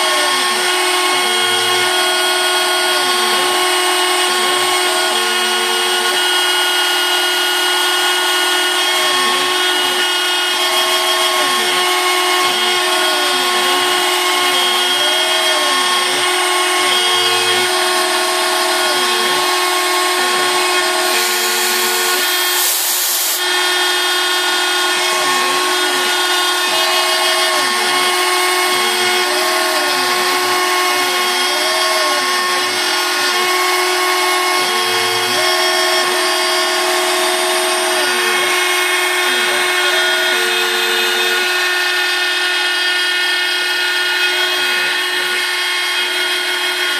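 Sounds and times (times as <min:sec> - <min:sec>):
milling cutting noise: 0:00.0 - 0:46.9
spindle high-pitched whine: 0:00.0 - 0:46.9
stepper motors singing tones: 0:00.0 - 0:46.9.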